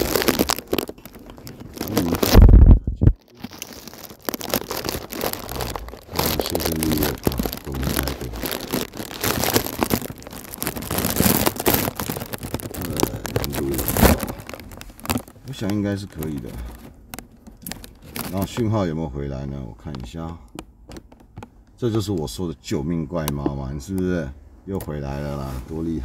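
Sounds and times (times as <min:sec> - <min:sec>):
microphone rustling and crackling: 0:00.0 - 0:18.9, 0:19.8 - 0:22.2, 0:24.7 - 0:26.0.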